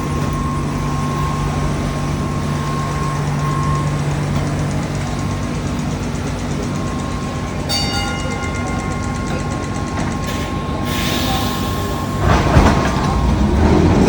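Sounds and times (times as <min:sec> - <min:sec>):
train machinery low hum: 0:00.0 - 0:14.0.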